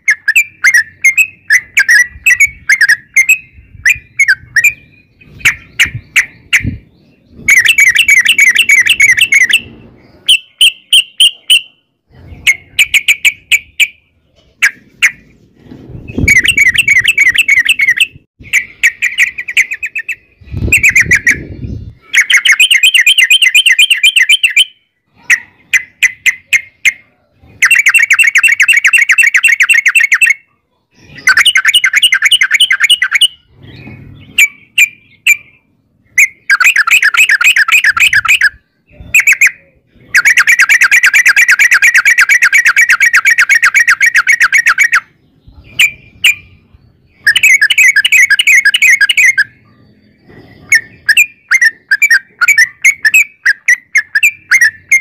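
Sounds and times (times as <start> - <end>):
bird chattering song: 0.0 - 55.0.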